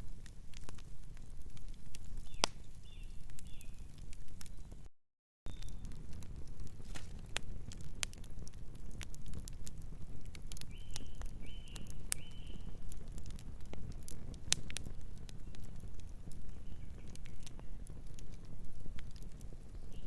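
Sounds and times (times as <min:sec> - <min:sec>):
wood fire crackling: 0:00.0 - 0:04.9, 0:05.5 - 0:20.0.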